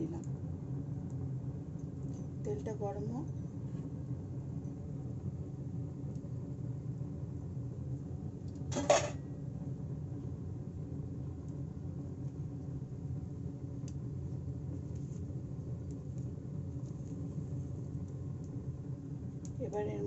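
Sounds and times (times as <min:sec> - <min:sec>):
low kitchen hum: 0:00.0 - 0:20.0.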